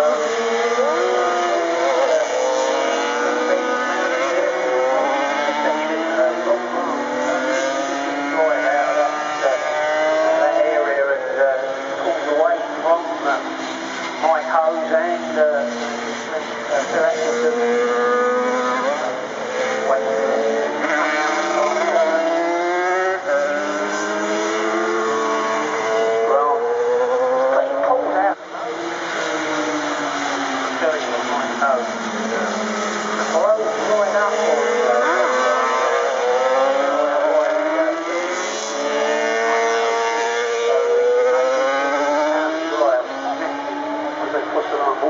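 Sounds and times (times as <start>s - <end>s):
racing motorcycles accelerating: 0.0s - 45.0s.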